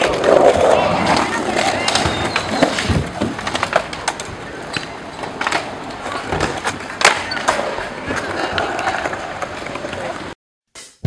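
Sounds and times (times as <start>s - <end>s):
skateboard deck clacking: 0.0s - 10.1s
skateboard wheels rumbling: 0.0s - 10.3s.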